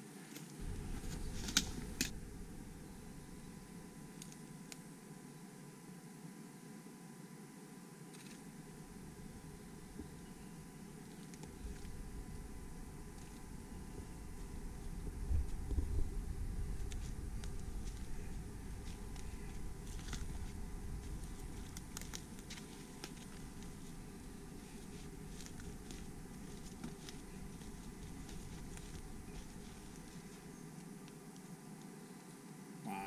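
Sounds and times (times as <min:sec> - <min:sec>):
footsteps on dry leaves: 0:00.6 - 0:04.6, 0:08.3 - 0:31.1
low rumble: 0:00.6 - 0:05.1, 0:08.4 - 0:30.5.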